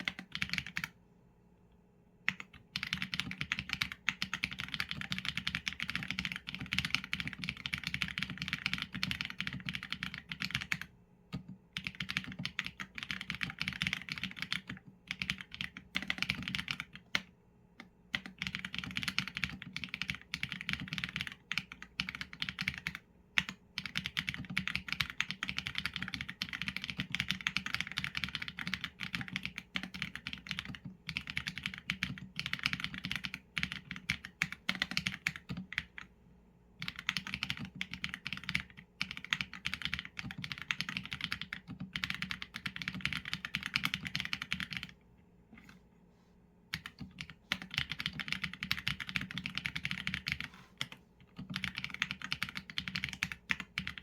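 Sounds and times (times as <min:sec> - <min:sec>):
mechanical keyboard typing: 0:00.0 - 0:01.0, 0:02.3 - 0:36.1, 0:36.8 - 0:45.0, 0:46.7 - 0:54.0.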